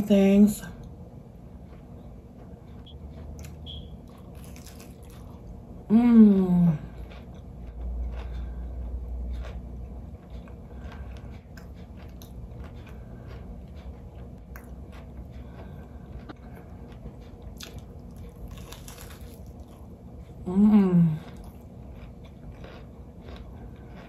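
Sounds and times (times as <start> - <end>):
chewing crispy fried fish: 1.6 - 5.7, 6.6 - 24.0.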